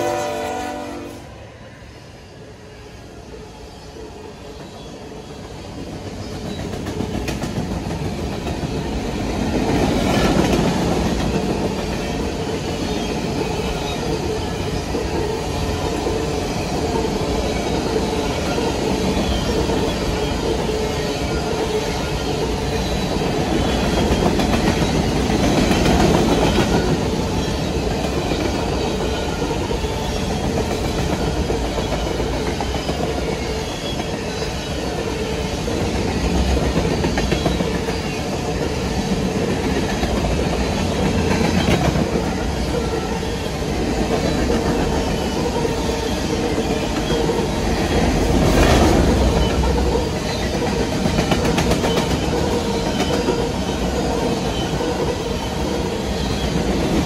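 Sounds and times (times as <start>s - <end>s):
freight train rolling past: 0.0s - 57.0s
wheels clacking over rail joints: 5.9s - 57.0s.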